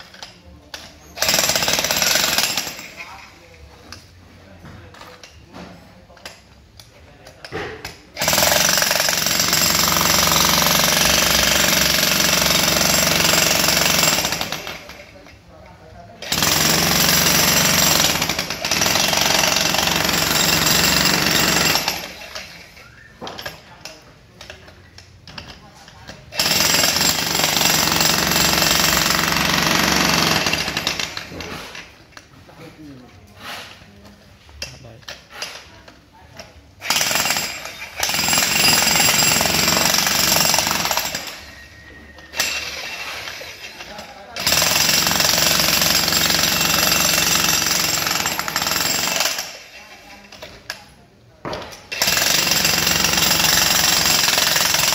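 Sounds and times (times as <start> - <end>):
demolition hammer on concrete: 0.0 - 32.4, 33.2 - 54.9.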